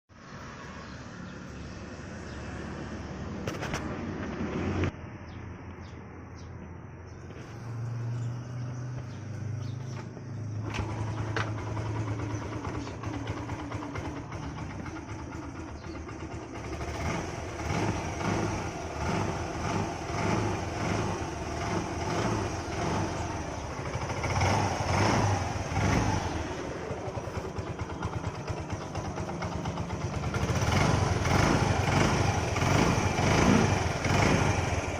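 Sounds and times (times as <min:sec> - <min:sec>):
scooter engine idling and revving: 0:00.2 - 0:34.9.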